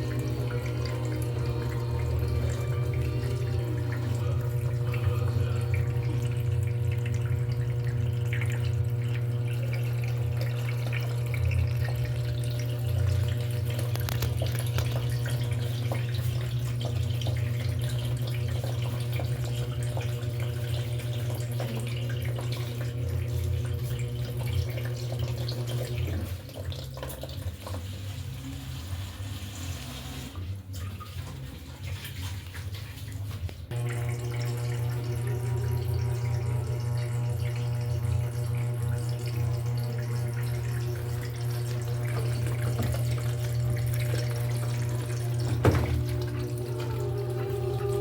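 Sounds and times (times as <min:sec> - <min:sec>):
washing machine hum: 0:00.0 - 0:48.0
water running into tub: 0:00.0 - 0:48.0.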